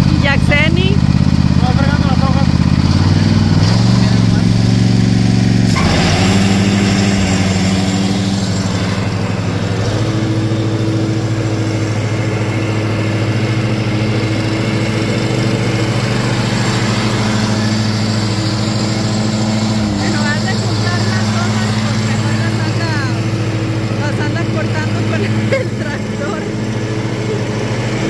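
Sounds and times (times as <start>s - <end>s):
riding lawn mower engine running: 0.0s - 28.0s.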